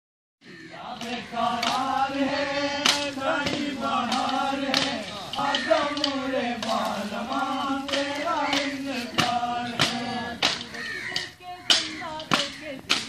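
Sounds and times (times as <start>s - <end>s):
men chanting in unison: 0.4s - 11.4s.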